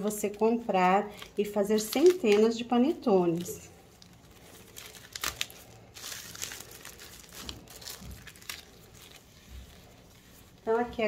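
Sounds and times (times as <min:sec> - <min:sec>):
cellophane bag crinkling: 0:00.0 - 0:10.7.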